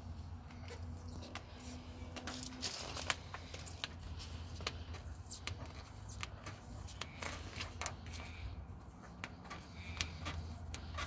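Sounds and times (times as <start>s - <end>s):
vinyl decal peeling crackles: 0.5s - 11.0s.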